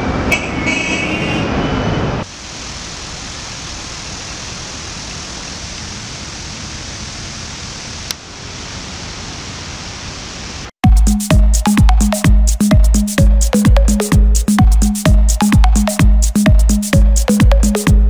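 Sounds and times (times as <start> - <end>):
outdoor background hiss: 2.1 - 17.8.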